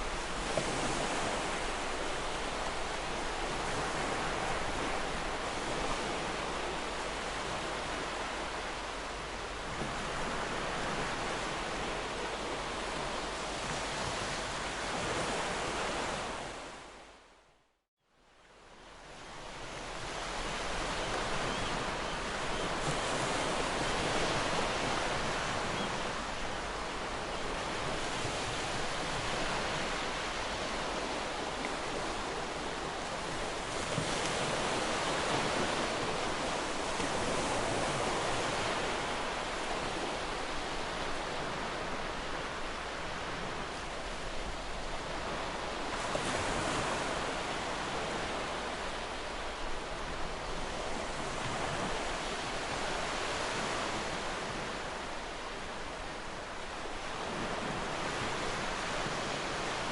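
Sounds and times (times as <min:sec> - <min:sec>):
sea waves washing onto shore: 0:00.0 - 0:16.9, 0:18.5 - 0:59.9.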